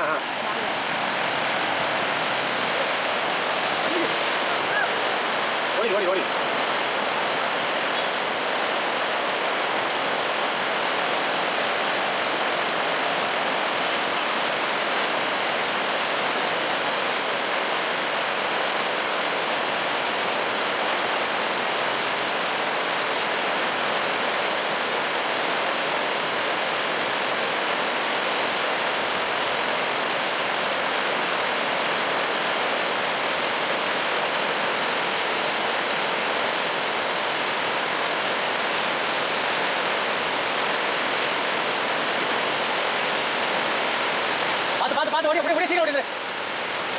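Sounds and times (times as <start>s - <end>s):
floodwater rushing and churning: 0.0s - 46.9s.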